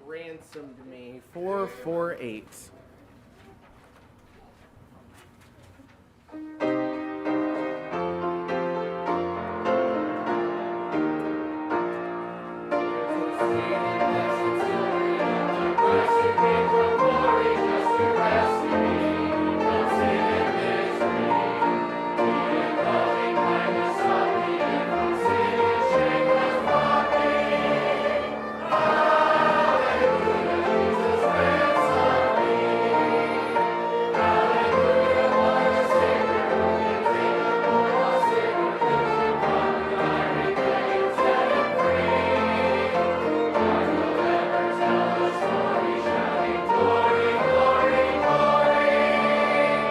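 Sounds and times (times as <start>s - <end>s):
piano accompaniment: 6.3s - 49.9s
congregation singing a hymn: 6.6s - 49.9s.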